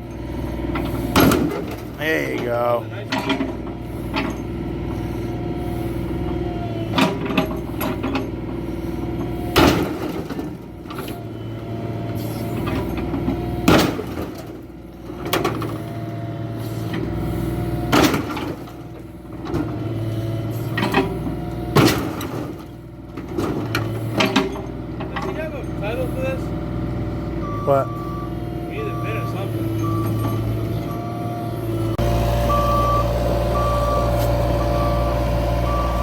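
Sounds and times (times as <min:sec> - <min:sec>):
heavy vehicle engine running: 0:00.0 - 0:36.0.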